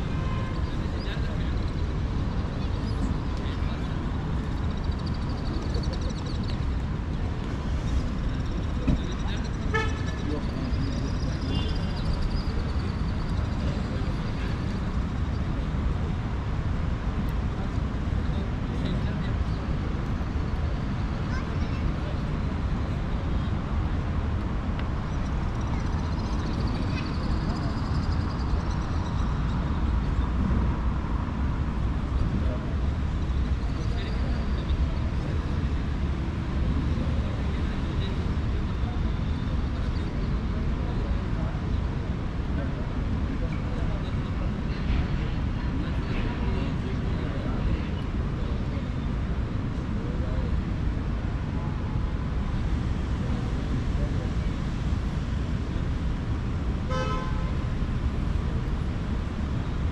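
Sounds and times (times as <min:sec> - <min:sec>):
city traffic rumble: 0:00.0 - 0:59.9.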